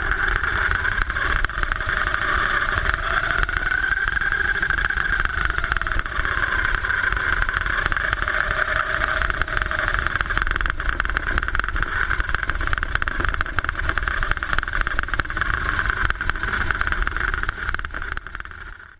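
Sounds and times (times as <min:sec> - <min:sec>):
electric motor whine: 0:00.0 - 0:18.9
small clicks crackling: 0:00.0 - 0:18.9.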